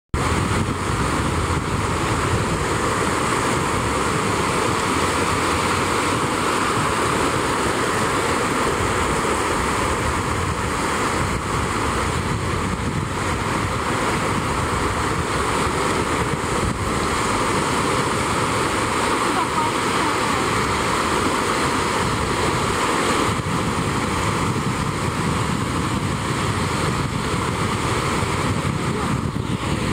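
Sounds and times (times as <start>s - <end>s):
small waves breaking on shore: 0.1s - 29.9s
wind buffeting microphone: 0.1s - 29.9s.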